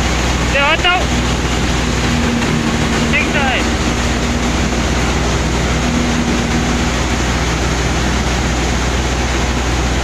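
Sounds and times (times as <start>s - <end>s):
thresher rushing drone: 0.0s - 10.0s
tractor engine hum: 0.0s - 10.0s.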